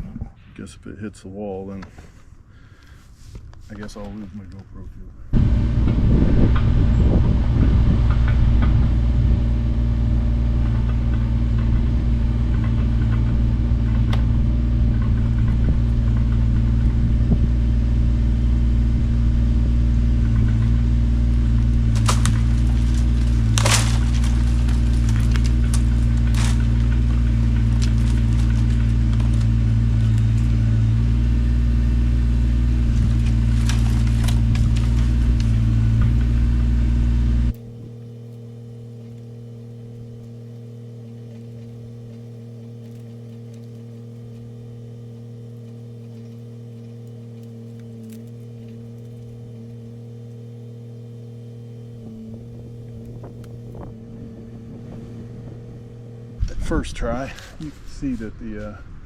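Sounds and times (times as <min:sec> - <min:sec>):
tractor diesel engine running: 0:05.3 - 0:59.0.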